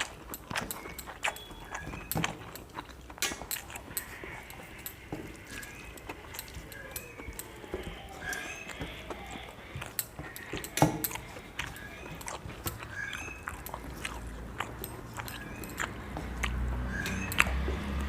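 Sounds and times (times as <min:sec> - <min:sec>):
chewing and lip-smacking: 0:00.0 - 0:18.0.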